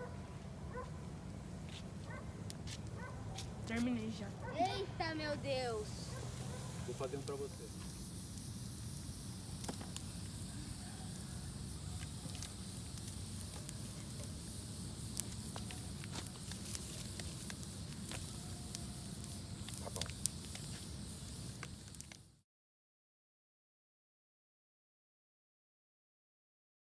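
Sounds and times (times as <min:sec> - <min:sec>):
campfire crackling: 0:00.0 - 0:22.4
fire popping: 0:00.7 - 0:22.4.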